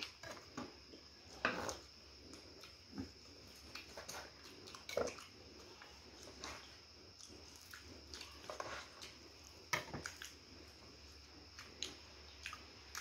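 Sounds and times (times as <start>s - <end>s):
chewing and smacking: 1.7s - 13.0s.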